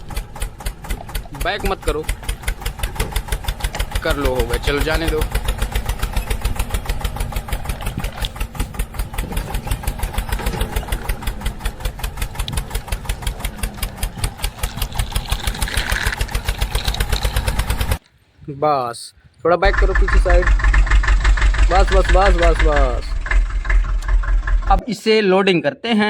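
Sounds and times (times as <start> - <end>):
small tractor engine putt-putting: 0.0 - 18.0, 19.6 - 24.8.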